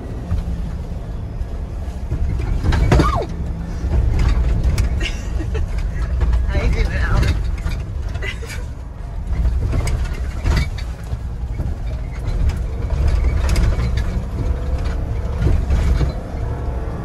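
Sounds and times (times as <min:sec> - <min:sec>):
engine and tyres rumbling: 0:00.0 - 0:17.0
truck knocks and rattles: 0:00.0 - 0:17.0.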